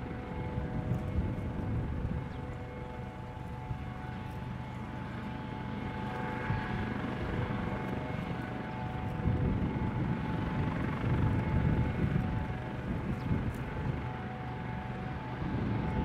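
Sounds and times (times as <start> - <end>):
helicopter rotor noise: 0.0 - 16.0
helicopter turbine whine: 0.0 - 16.0.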